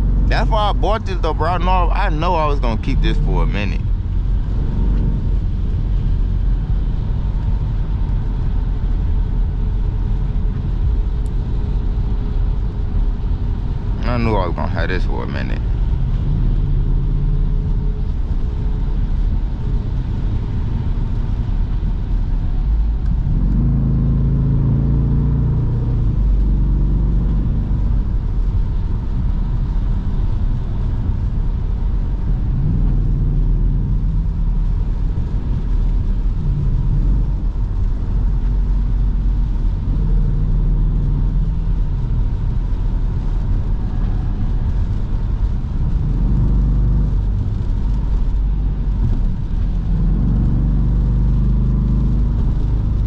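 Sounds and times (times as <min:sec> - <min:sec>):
car exhaust drone: 0:00.0 - 0:53.0
road rumble: 0:00.0 - 0:53.0.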